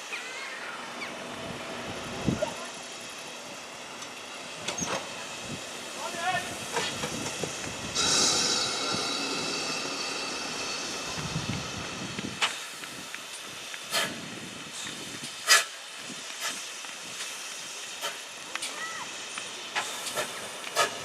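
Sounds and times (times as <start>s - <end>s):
locomotive steam hissing: 0.0s - 21.0s.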